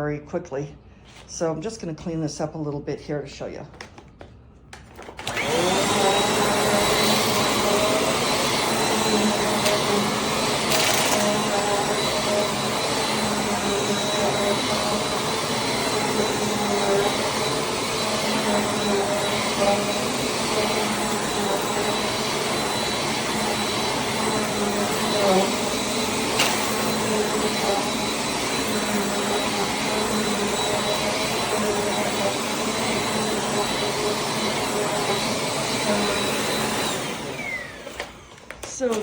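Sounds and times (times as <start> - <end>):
upright vacuum cleaner running: 5.0 - 39.0.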